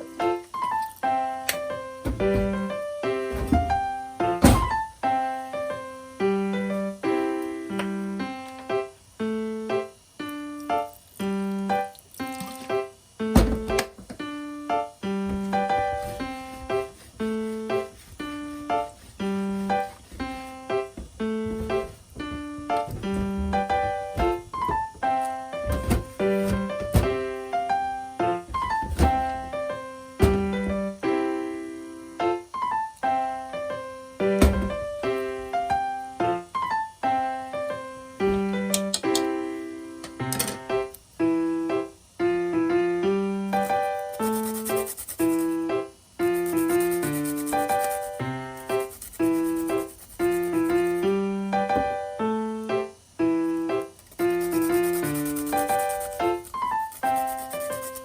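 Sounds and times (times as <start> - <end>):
slow piano music: 0.0 - 58.0.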